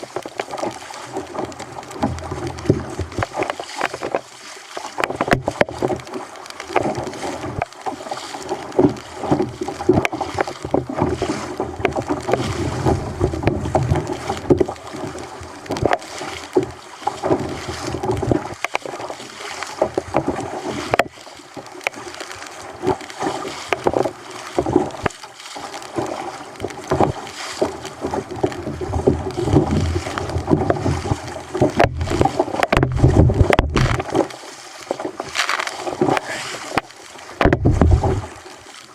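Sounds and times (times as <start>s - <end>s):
water slapping against kayak hull: 0.0s - 38.9s.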